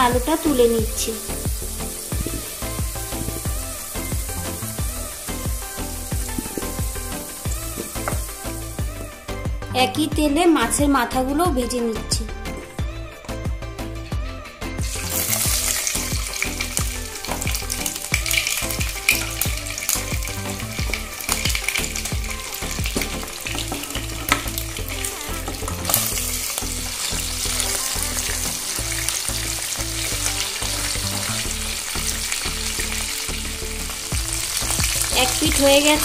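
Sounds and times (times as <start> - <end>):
fish frying in oil: 0.0 - 9.0, 14.8 - 36.0.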